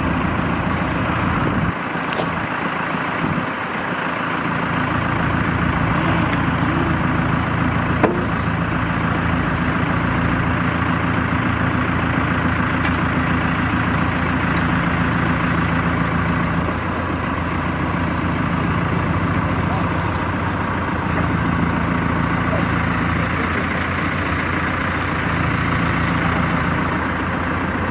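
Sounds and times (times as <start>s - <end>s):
diesel engine idling: 0.0s - 27.9s.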